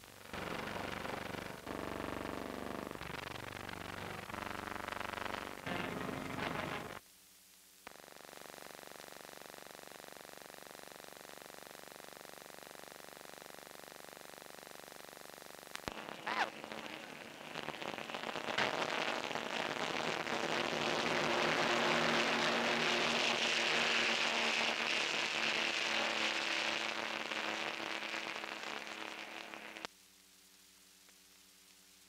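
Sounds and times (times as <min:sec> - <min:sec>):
crackly film soundtrack hiss: 0:00.0 - 0:32.0
faint steady hum: 0:00.0 - 0:32.0.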